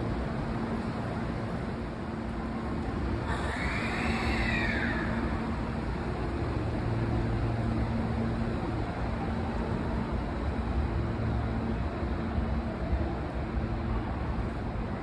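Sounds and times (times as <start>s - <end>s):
train station platform ambience: 0.0s - 15.0s.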